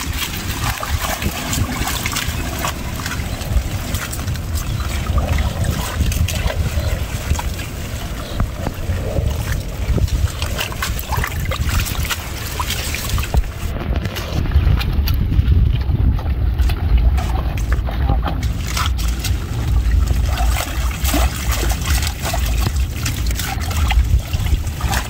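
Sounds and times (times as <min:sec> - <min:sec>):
water splashing: 0:00.0 - 0:25.0
wind rumbling on microphone: 0:00.0 - 0:25.0.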